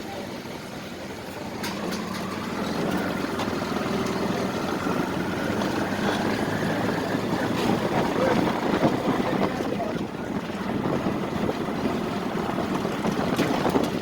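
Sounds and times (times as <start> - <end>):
engine humming: 0.0 - 14.0
outdoor background noise: 0.0 - 14.0.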